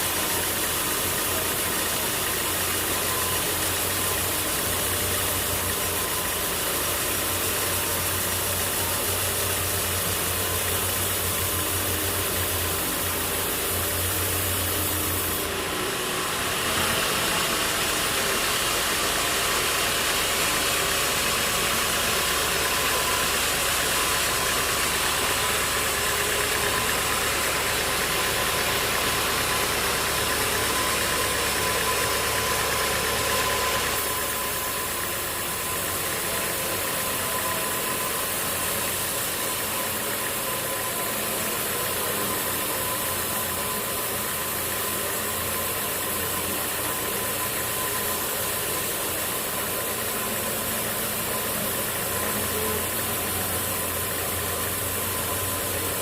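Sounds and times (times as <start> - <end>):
hiss: 0.0 - 56.0
machinery drone: 0.0 - 56.0.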